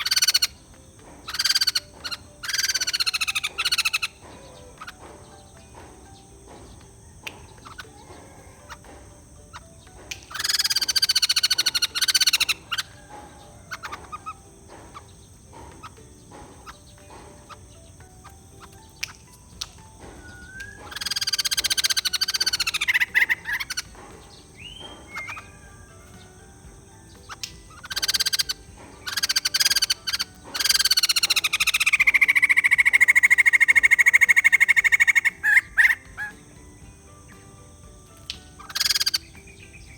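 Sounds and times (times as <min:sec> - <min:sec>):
bird rattling calls: 0:00.0 - 0:39.9
soft bird calls and clicks: 0:00.0 - 0:39.9.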